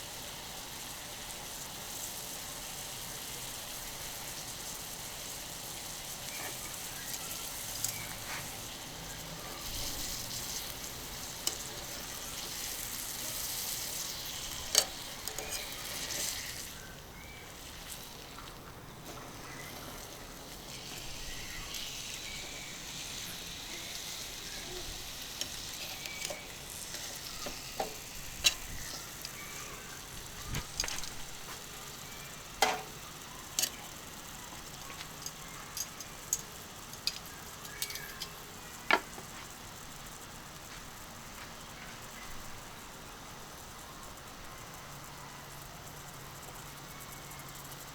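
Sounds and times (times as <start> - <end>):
steak sizzling on griddle: 0.0 - 47.9.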